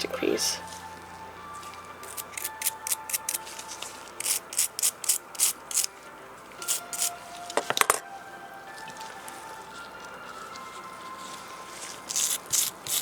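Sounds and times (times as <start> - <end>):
scratchy scrubbing strokes: 0.6 - 13.0.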